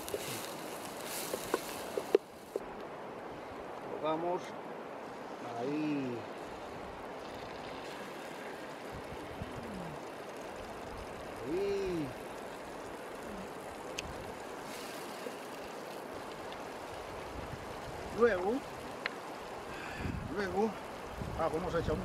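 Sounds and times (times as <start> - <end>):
river water flowing over stones: 0.0 - 22.0.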